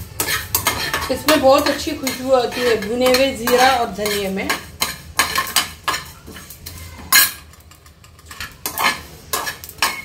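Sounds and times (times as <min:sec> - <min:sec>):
spoon scraping seeds in metal pan: 0:00.0 - 0:10.0.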